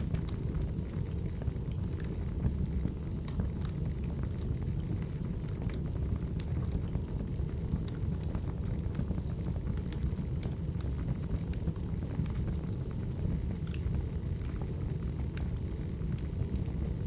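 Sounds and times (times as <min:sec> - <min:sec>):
firewood burning with crackles: 0:00.0 - 0:17.0.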